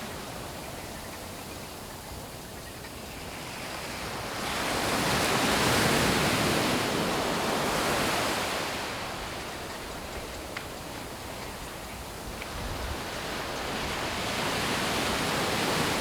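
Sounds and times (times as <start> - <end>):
waves breaking on a beach: 0.0 - 16.0.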